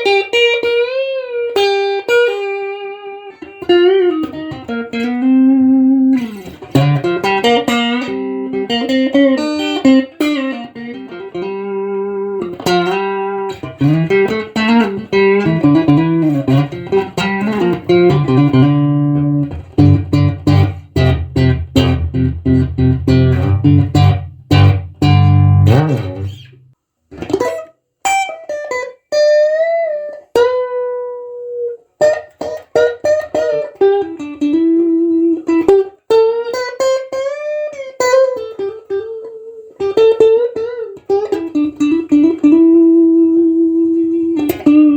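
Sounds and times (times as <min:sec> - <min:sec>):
electric guitar through amplifier: 0:00.0 - 0:44.9.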